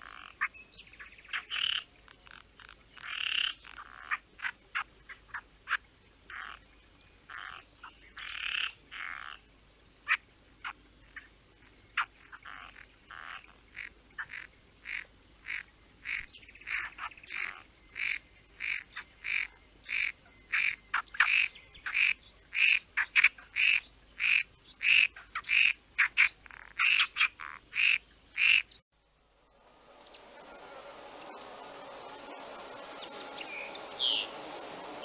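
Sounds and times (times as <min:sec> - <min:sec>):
bird calling: 0:00.0 - 0:28.8, 0:30.0 - 0:35.0.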